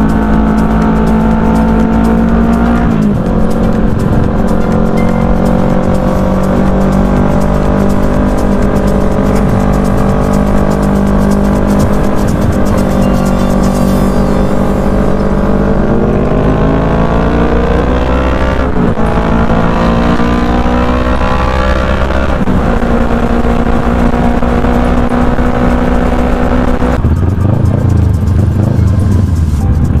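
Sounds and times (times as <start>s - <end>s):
low engine rumble: 0.0s - 30.0s
motorcycle engine accelerating: 0.0s - 30.0s.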